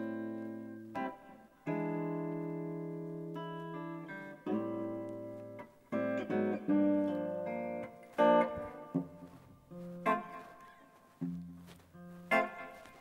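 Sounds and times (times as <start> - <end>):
electric guitar chords and notes: 0.0 - 13.0.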